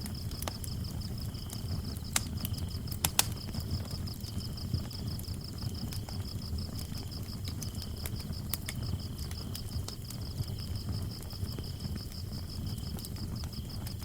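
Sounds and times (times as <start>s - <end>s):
crickets chirping: 0.0s - 14.0s
wood fire crackling and popping: 0.0s - 14.0s.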